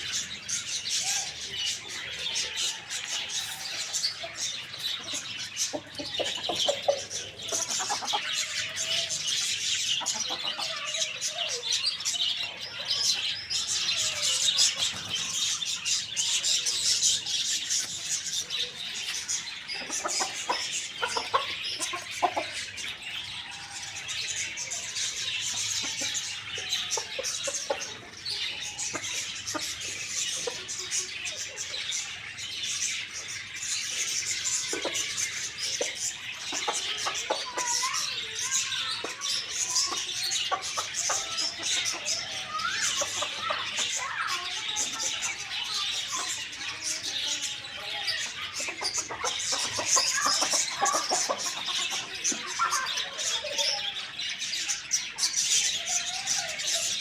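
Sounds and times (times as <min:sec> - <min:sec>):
birds chirping: 0:00.0 - 0:57.0
chickens clucking: 0:00.0 - 0:57.0.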